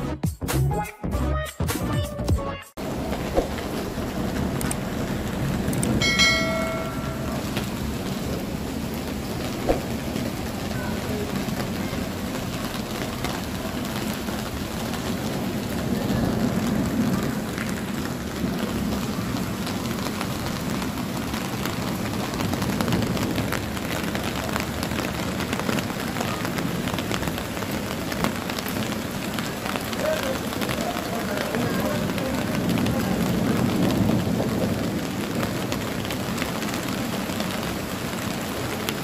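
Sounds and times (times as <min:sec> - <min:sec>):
low thunder rumble: 0:02.8 - 0:29.9, 0:31.5 - 0:38.9
heavy rainfall: 0:02.8 - 0:39.0.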